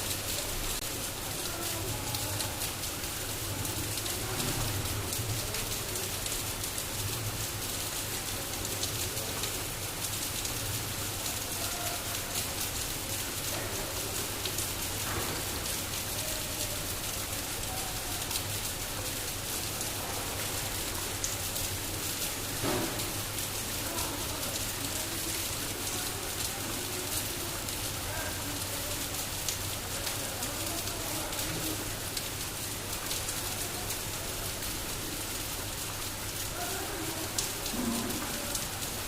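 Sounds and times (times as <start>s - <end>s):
water spraying on bike: 0.0s - 39.0s.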